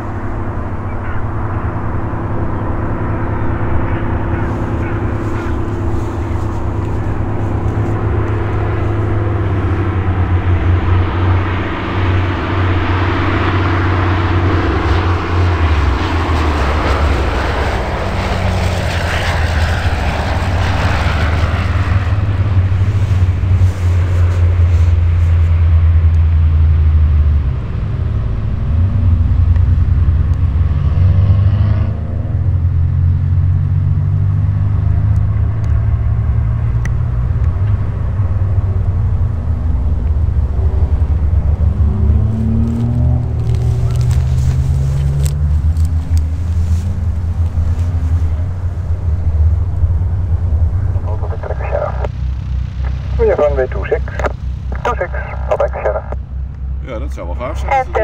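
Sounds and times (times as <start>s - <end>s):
light aircraft engine and propeller: 0.0s - 58.0s
low engine hum: 0.0s - 58.0s.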